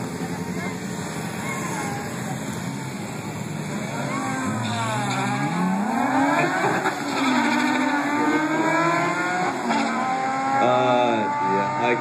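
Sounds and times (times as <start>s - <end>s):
drag cars accelerating hard: 0.0s - 12.0s.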